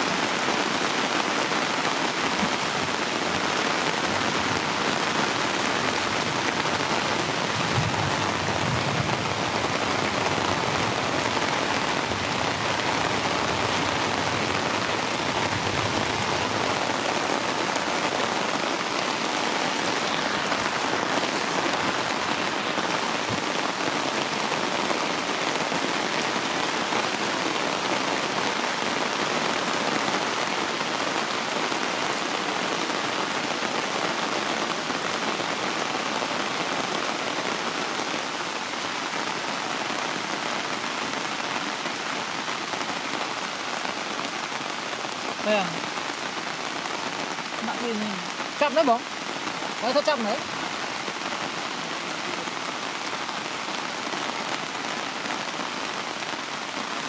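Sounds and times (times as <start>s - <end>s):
heavy rain splashing on concrete: 0.0s - 57.0s.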